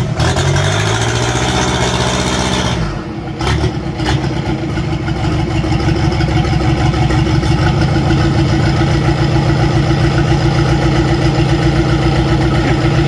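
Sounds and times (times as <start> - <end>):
diesel boat engine running: 0.0 - 13.0.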